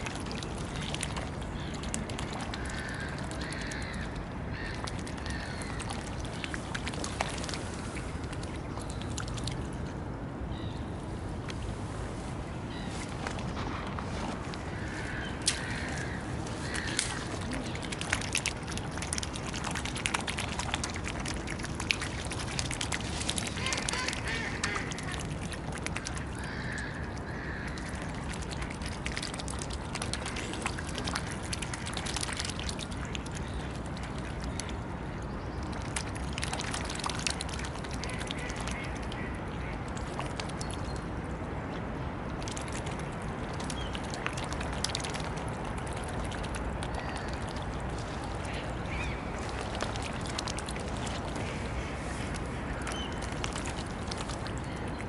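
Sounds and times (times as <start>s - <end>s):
swans' bills clicking and splashing: 0.0s - 9.9s, 13.0s - 55.0s.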